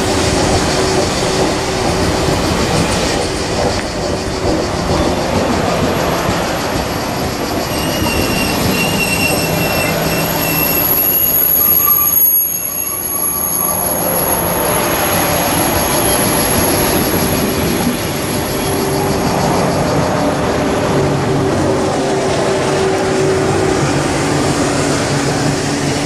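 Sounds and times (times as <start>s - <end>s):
train rumbling rolling noise: 0.0s - 26.0s
train wheels and brakes squealing: 0.0s - 26.0s.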